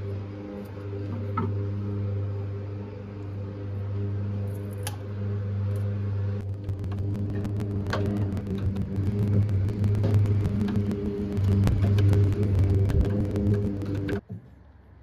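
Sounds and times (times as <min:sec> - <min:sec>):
scratching crackle: 0:00.0 - 0:14.2
small electric motor humming: 0:00.0 - 0:14.2.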